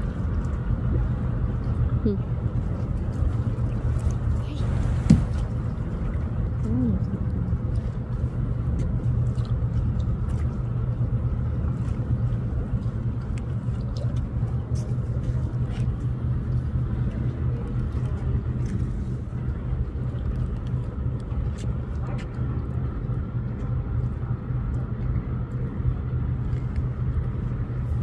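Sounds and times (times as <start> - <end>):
ferry engines droning: 0.0 - 28.0.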